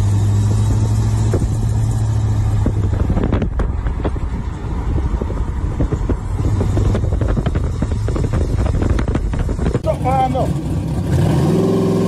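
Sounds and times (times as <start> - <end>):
exhaust crackles: 0.0 - 11.4
car exhaust rumbling by: 0.0 - 12.0.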